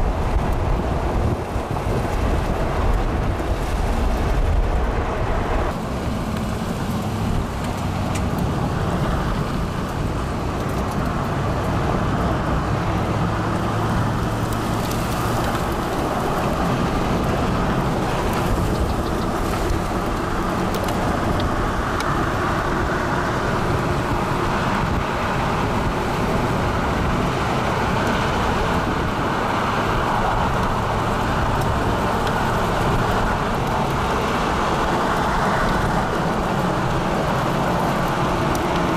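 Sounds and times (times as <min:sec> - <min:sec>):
wind noise: 0:00.0 - 0:38.9.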